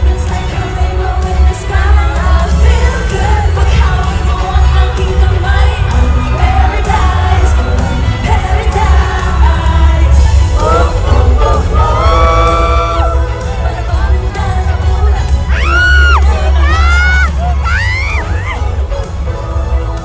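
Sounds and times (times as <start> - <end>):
crowd yelling and cheering: 0.0 - 20.0
heavy pulsing bass: 0.0 - 20.0
person singing over backing track: 0.0 - 20.0.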